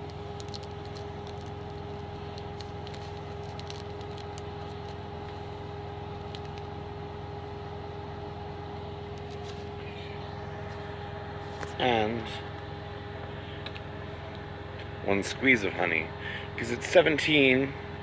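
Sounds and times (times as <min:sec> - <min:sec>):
engine unit humming: 0:00.0 - 0:18.0.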